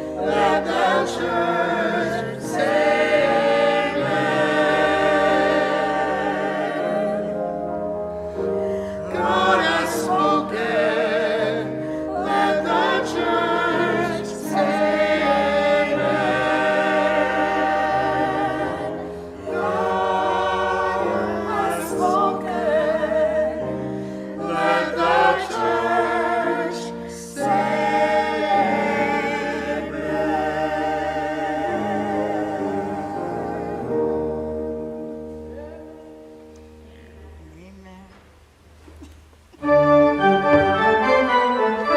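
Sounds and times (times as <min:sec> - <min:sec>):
choir singing in harmony: 0:00.0 - 0:36.9, 0:39.6 - 0:41.9.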